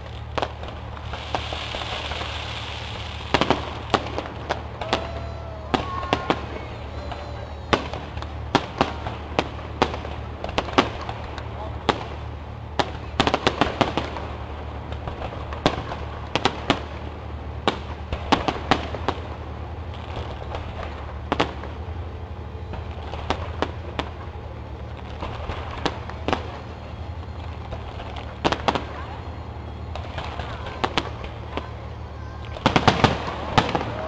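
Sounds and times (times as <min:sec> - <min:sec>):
fireworks bursting bangs: 0:00.0 - 0:34.0
fireworks crackle: 0:00.0 - 0:34.0.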